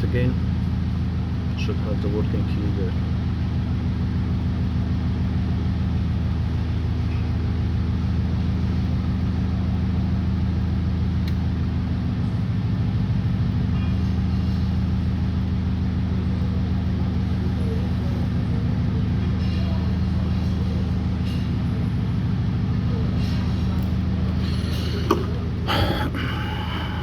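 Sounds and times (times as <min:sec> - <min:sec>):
low mechanical hum of machinery: 0:00.0 - 0:27.0.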